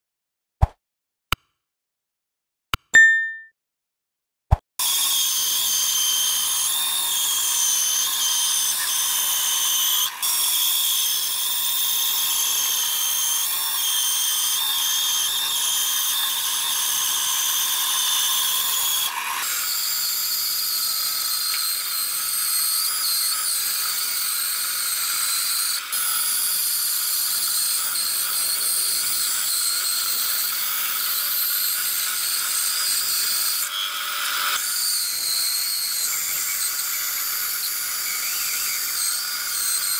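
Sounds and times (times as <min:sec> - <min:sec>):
band saw cutting wood: 0:04.8 - 0:39.9.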